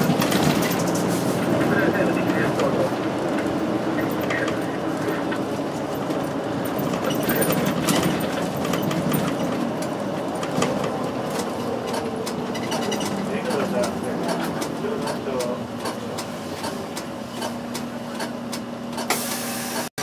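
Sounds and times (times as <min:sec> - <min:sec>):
bus diesel engine running: 0:00.0 - 0:20.0.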